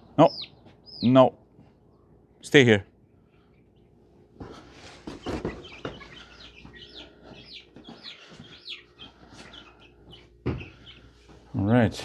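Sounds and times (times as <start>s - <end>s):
chicks peeping: 0.0s - 2.2s, 3.3s - 12.0s.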